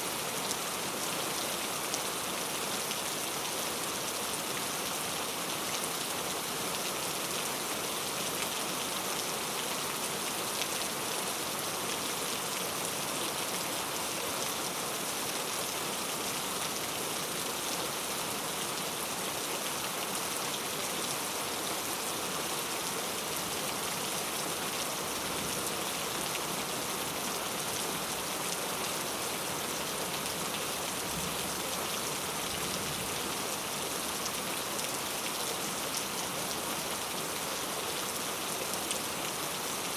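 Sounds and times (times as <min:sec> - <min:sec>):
heavy rain in forest: 0:00.0 - 0:39.9.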